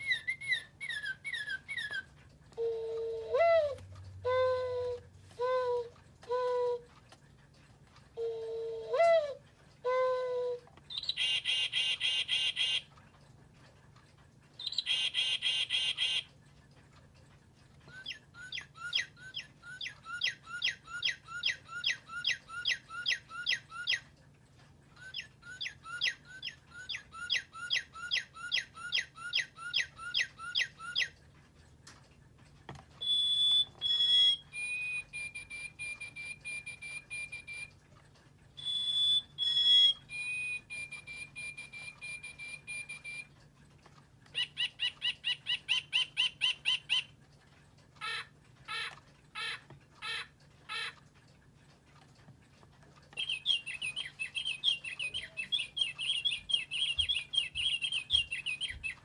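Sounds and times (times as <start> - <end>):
recorded bird calls from clock speaker: 0.0 - 7.0, 8.1 - 13.0, 14.5 - 16.4, 17.6 - 31.3, 33.0 - 37.9, 38.5 - 43.4, 44.2 - 51.5, 53.0 - 59.0.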